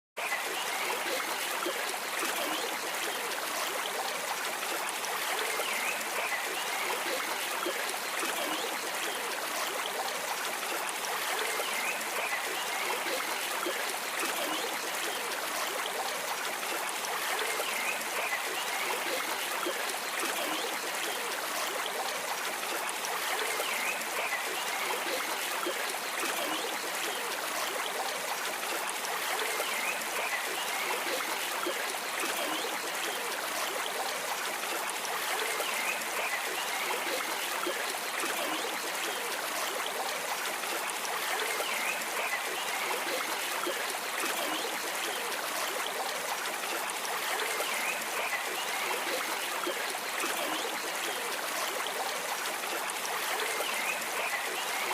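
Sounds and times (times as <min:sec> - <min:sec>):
stream water running: 0:00.2 - 0:54.9.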